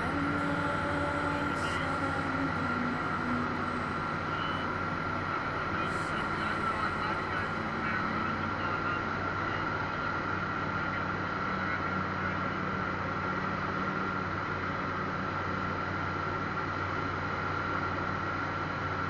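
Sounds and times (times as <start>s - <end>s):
aircraft engine droning: 0.0s - 19.0s
high whine: 0.0s - 19.0s.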